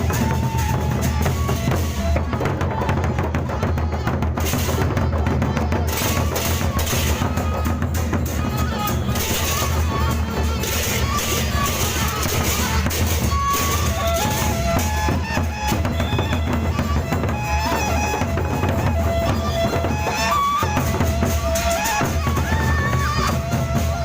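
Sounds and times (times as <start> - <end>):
big drums beating: 0.0 - 24.0.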